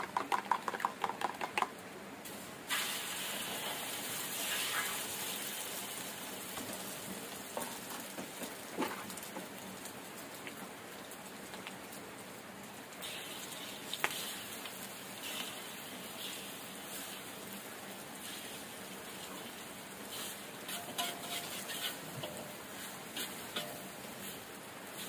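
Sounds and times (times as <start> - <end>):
rain pattering: 0.0 - 25.0.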